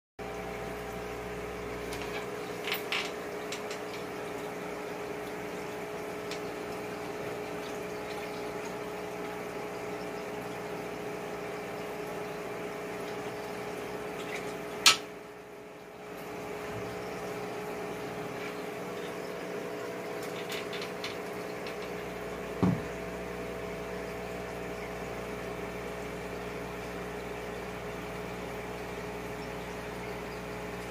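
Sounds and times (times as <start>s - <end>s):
aquarium air pump humming: 0.2s - 30.9s
bubbling water: 0.2s - 30.9s.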